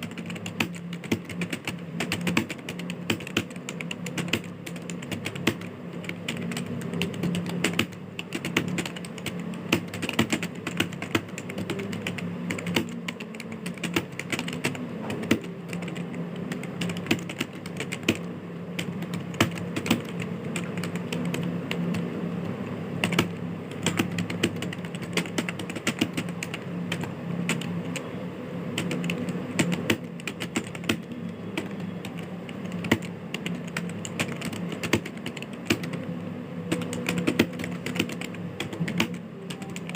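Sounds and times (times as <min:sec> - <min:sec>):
fast typing on a keyboard: 0:00.0 - 0:22.1, 0:23.0 - 0:28.1, 0:28.7 - 0:36.1, 0:36.7 - 0:39.9
steady low hum: 0:00.0 - 0:39.9.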